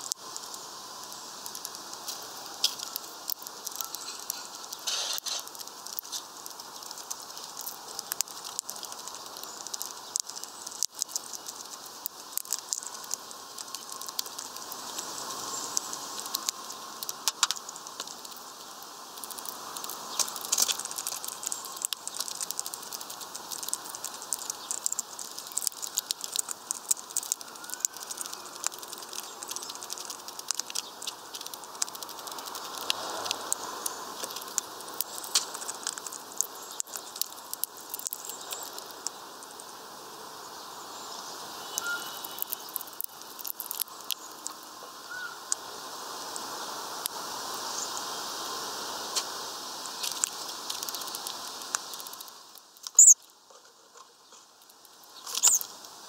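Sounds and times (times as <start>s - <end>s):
bird cracking seeds: 0.0s - 39.8s, 41.0s - 45.6s, 49.0s - 56.0s.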